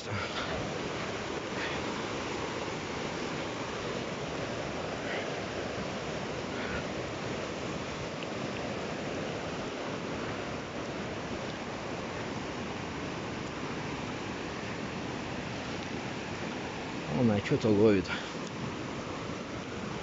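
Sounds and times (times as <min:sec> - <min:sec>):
waves washing against shore: 0:00.0 - 0:20.0.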